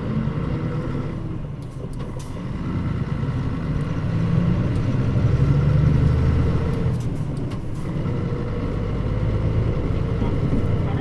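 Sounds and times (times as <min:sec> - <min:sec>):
bus engine drone from inside: 0:00.0 - 0:11.0.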